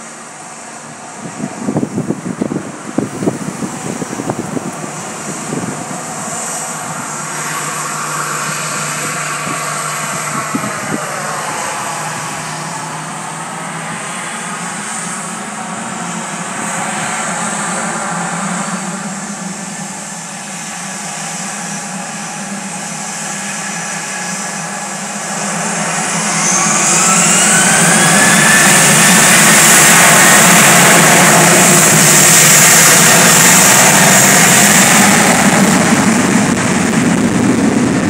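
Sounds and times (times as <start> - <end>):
jet engines spooling up: 0.0 - 38.0.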